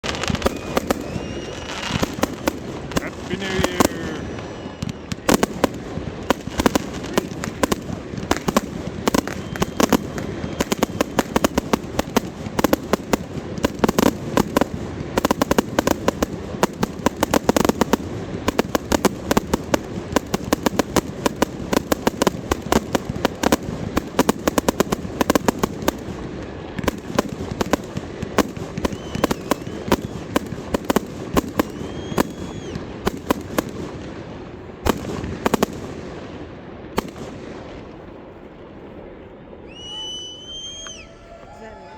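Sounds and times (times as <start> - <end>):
firework whistles: 0.0 - 26.0, 28.4 - 33.7, 39.6 - 41.9
fireworks bangs and crackling: 0.0 - 41.9.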